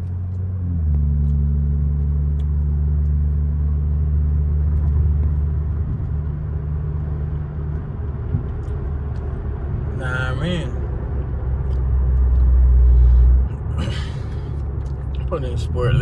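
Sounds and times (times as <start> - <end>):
car engine droning in cabin: 0.0 - 16.0.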